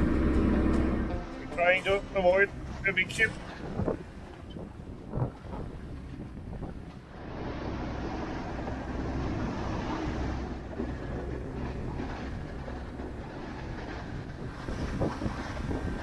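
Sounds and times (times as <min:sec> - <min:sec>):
boat engine running: 0:00.0 - 0:16.0
wind and water rushing: 0:00.0 - 0:16.0.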